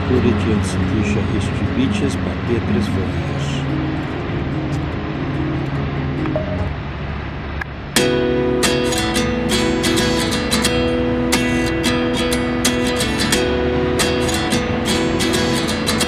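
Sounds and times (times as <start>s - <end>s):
strummed acoustic guitar: 0.0s - 6.9s, 7.9s - 16.0s.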